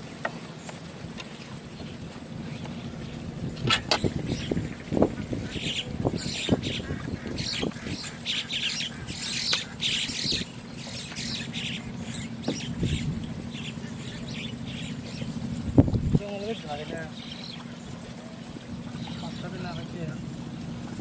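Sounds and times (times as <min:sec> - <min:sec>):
birds chirping and squawking: 0:01.7 - 0:19.9.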